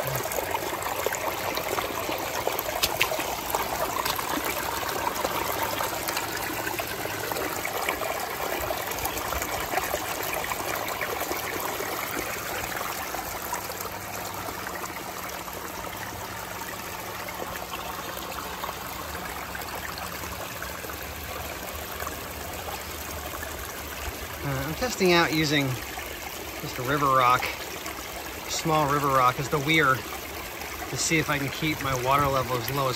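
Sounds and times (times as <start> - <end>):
water trickling and splashing: 0.0 - 32.9.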